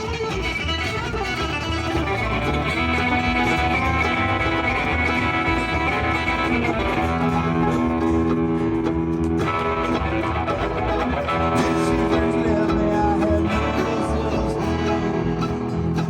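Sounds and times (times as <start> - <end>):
mandolin: 0.0 - 16.0
plucked guitar: 0.0 - 16.0
stand-up bass: 0.0 - 16.0.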